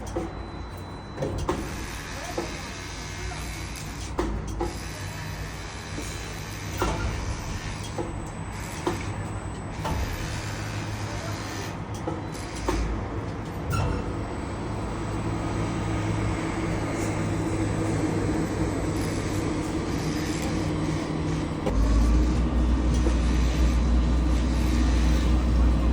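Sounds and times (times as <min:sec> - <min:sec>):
heavy engine running: 0:00.0 - 0:25.9.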